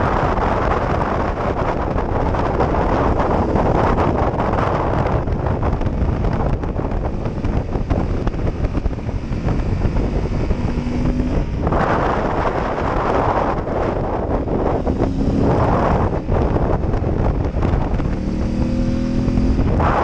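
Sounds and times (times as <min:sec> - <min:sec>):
motorcycle engine and tyres: 0:00.0 - 0:20.0
wind rushing over microphone: 0:00.0 - 0:20.0.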